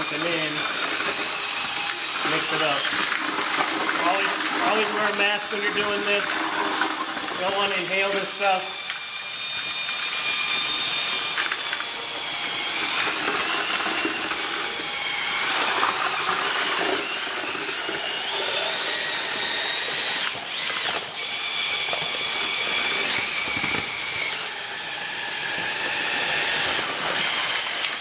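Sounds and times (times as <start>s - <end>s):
drill motor whining: 0.0s - 28.0s
paddle mixer stirring concrete: 0.0s - 28.0s.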